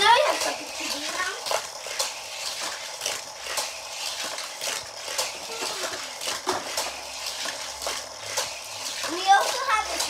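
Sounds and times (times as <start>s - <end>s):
toy car clacking on plastic track: 0.0s - 10.0s.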